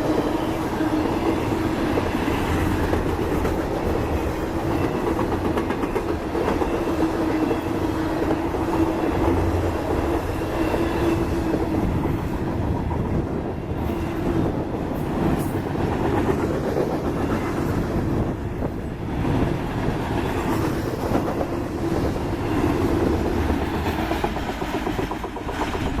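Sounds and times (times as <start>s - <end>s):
freight train rumbling past: 0.0s - 26.0s
wheels clacking over rail joints: 0.8s - 13.2s, 13.8s - 26.0s.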